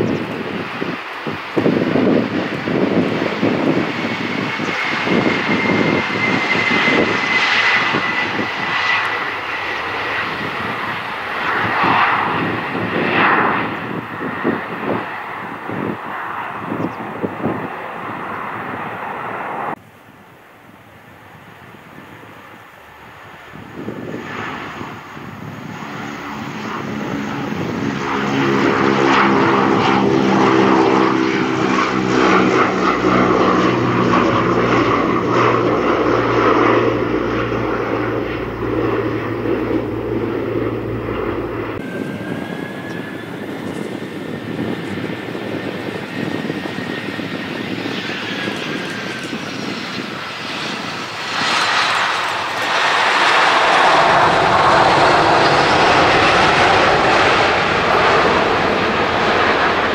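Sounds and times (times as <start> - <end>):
turboprop propeller drone: 0.0 - 19.8, 23.7 - 59.9
jet engines rushing with whine: 0.0 - 59.9.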